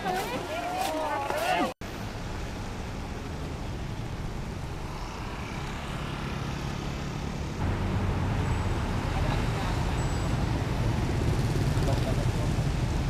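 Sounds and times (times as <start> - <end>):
outdoor noise: 0.0 - 13.0
engine drone: 1.8 - 13.0.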